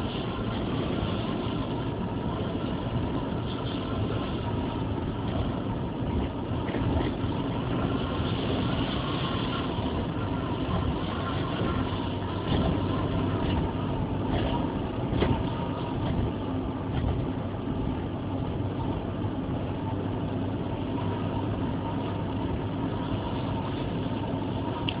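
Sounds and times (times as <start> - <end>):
constant low hum: 0.0 - 25.0.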